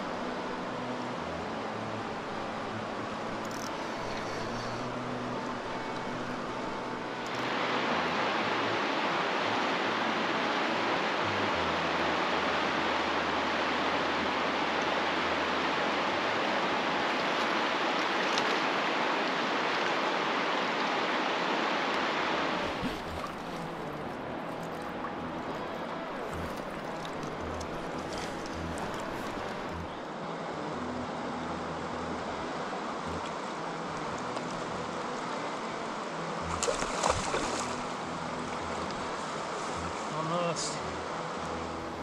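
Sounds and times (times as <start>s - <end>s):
fast-flowing river: 0.0s - 42.0s.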